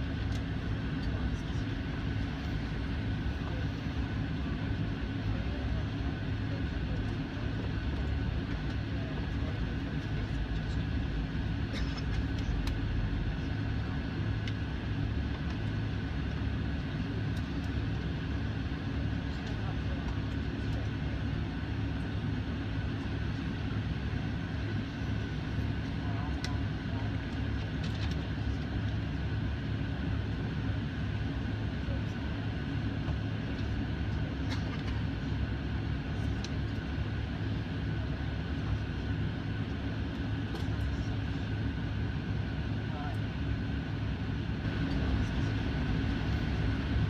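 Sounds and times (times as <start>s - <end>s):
jet engines humming: 0.0s - 47.0s
thin steady whine: 0.0s - 47.0s.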